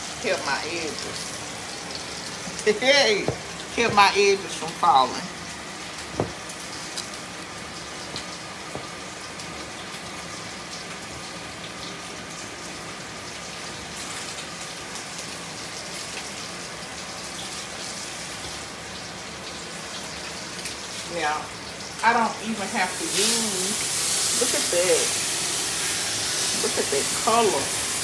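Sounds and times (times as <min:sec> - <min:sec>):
steak sizzling in a skillet: 0:00.0 - 0:28.0.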